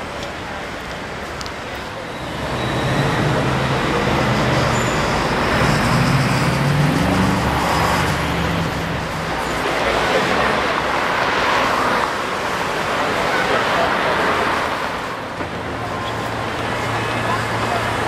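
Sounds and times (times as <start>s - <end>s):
car engines: 0.0s - 18.0s
car tyres on road: 0.0s - 18.0s.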